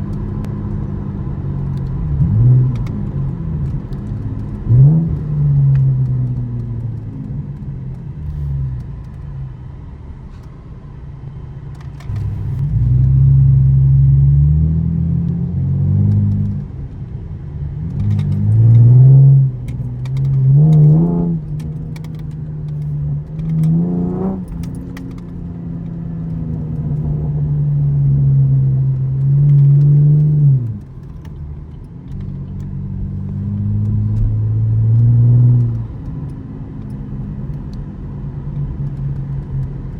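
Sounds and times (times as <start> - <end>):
car engine accelerating: 0.0 - 9.7, 11.7 - 39.9.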